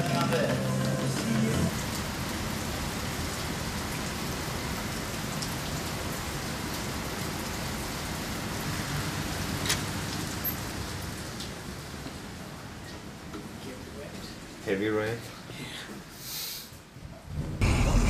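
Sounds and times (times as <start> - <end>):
heavy rain falling: 0.0 - 14.6.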